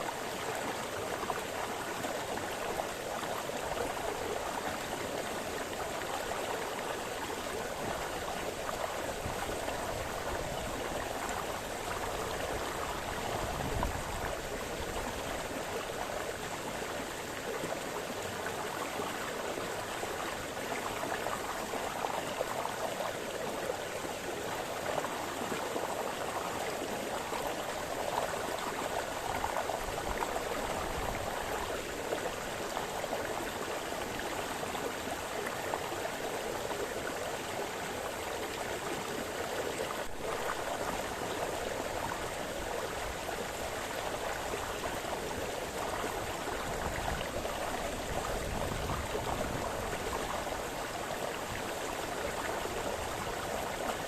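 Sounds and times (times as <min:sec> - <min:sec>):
brook burbling over stones: 0:00.0 - 0:54.0.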